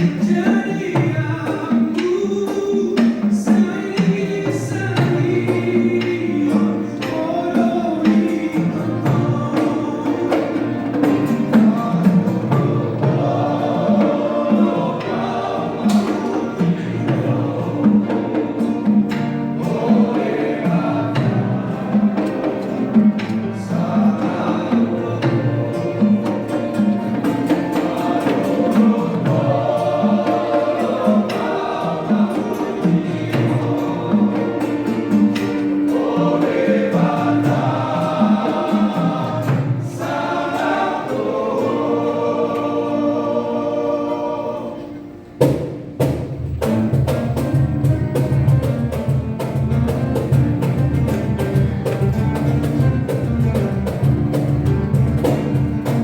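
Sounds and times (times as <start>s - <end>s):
instrumental accompaniment: 0.0s - 56.0s
vocal group singing in harmony: 0.0s - 56.0s.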